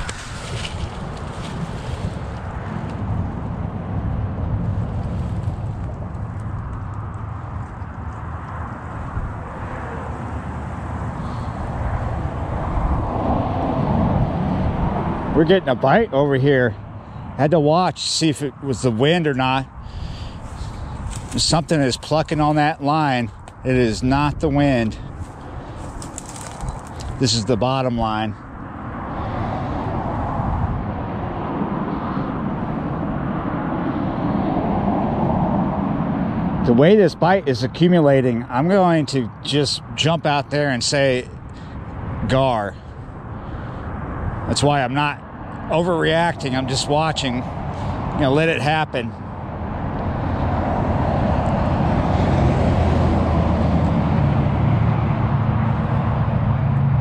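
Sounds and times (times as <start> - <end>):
low engine drone: 0.0 - 36.9, 41.4 - 57.0
distant vehicle rumble: 0.0 - 57.0
road traffic rush: 0.0 - 57.0.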